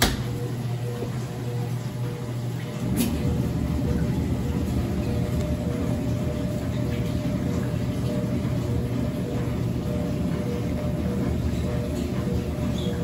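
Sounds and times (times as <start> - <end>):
tumble dryer running: 0.0 - 13.0.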